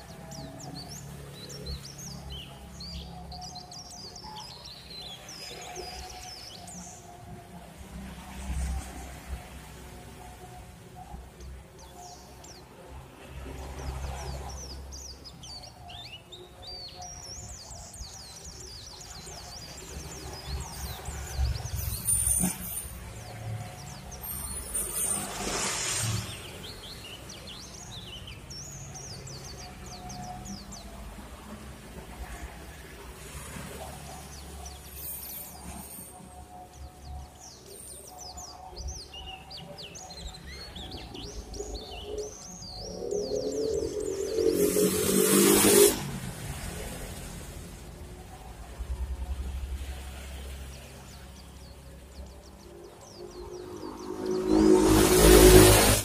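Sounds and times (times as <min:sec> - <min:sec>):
small birds chirping: 0:00.0 - 0:46.0, 0:47.7 - 0:56.0.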